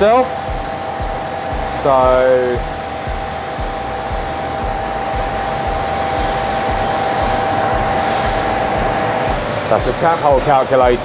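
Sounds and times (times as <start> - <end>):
high whine: 0.0 - 11.0
workshop machinery rushing: 0.0 - 11.0.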